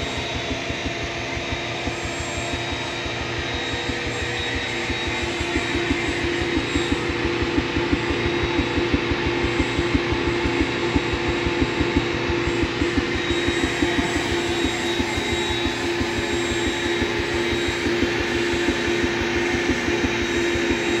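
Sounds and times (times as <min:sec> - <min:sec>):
vacuum machine motor hum: 0:00.0 - 0:21.0.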